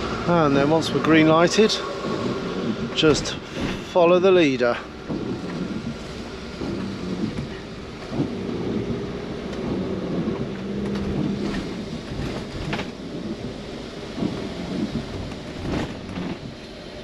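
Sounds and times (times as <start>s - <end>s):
diesel engine droning: 0.0s - 17.0s
rain and wet road noise: 0.0s - 17.0s
windscreen wipers sweeping: 0.0s - 17.0s.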